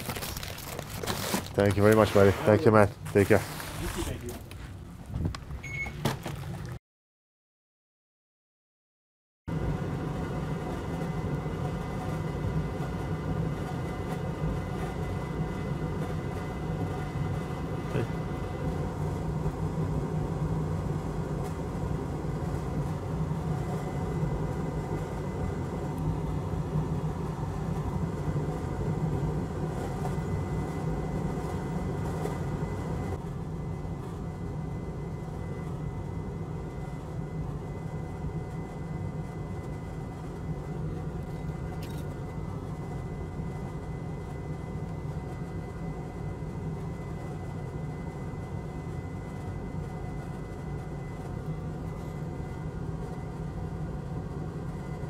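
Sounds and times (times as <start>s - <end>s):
bench equipment humming: 9.5s - 55.0s
faint high whine: 9.5s - 55.0s.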